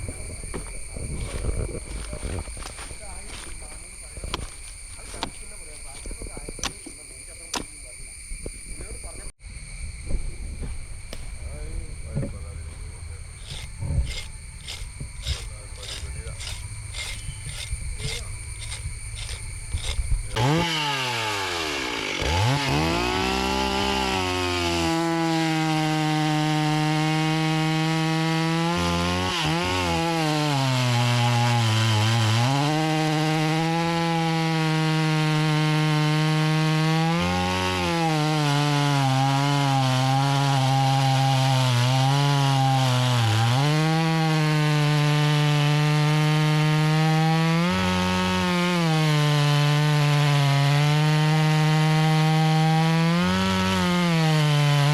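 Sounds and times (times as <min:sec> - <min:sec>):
chainsaw cutting wood: 0:00.1 - 0:03.7, 0:13.4 - 0:54.9.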